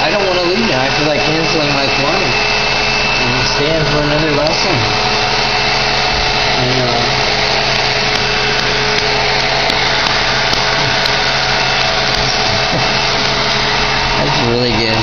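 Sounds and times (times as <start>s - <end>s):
electric blower motor whooshing: 0.0s - 15.0s
faint steady whine: 0.0s - 15.0s.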